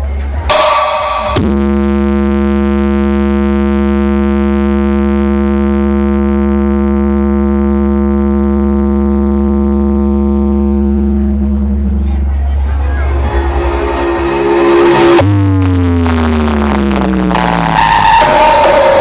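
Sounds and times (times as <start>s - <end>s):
heavy sub-bass: 0.0s - 19.0s
synthesizer drone note: 0.5s - 19.0s.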